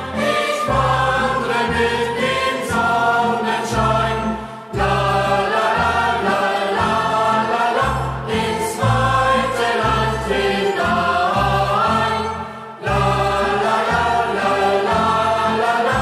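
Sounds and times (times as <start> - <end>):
choir singing in unison: 0.0 - 16.0.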